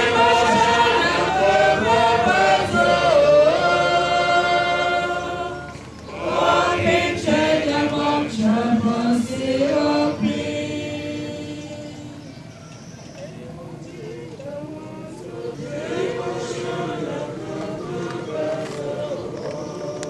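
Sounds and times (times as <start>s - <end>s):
congregation singing a hymn: 0.0s - 12.4s, 13.8s - 20.0s.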